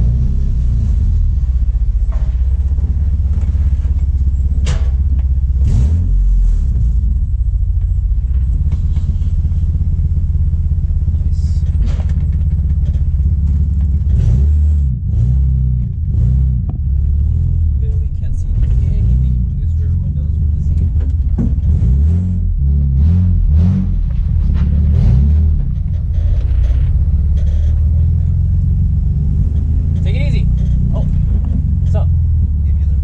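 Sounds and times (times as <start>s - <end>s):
car engine drone: 0.0s - 33.0s.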